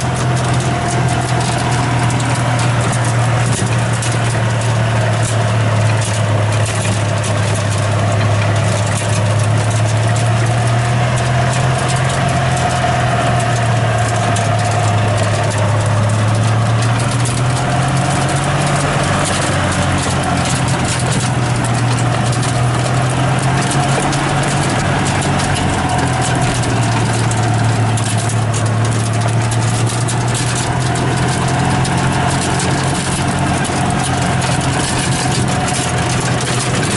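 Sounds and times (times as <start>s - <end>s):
engine humming: 0.0s - 36.9s.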